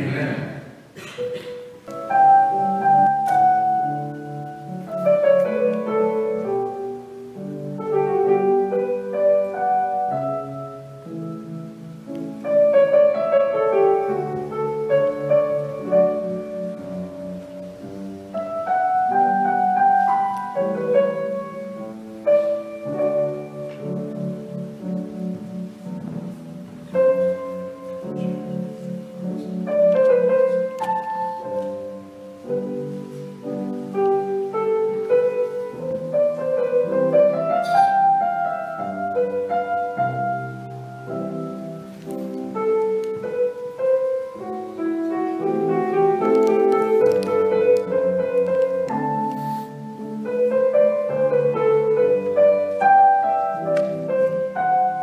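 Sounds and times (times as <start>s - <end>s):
slow keyboard music: 0.0s - 55.0s.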